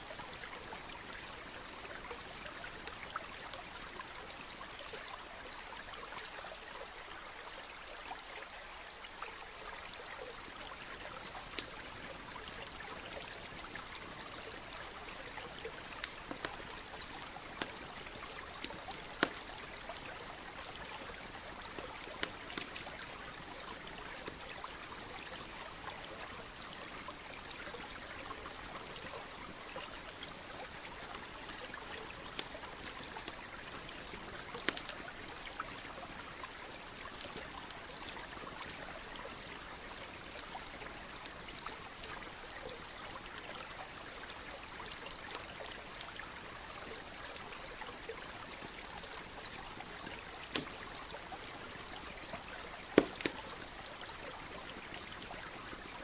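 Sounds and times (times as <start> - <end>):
campfire crackling: 0.0 - 7.0, 9.6 - 56.0.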